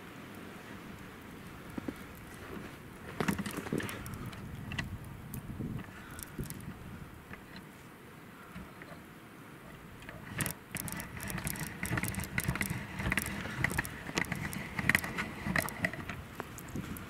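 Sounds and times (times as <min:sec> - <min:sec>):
crackles crunches and clicks: 0:00.8 - 0:07.7, 0:10.0 - 0:17.0.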